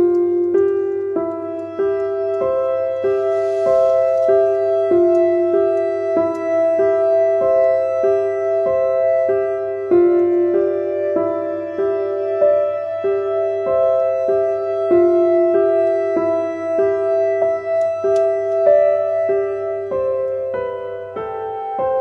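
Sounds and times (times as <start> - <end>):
slow keyboard melody: 0.0 - 22.0.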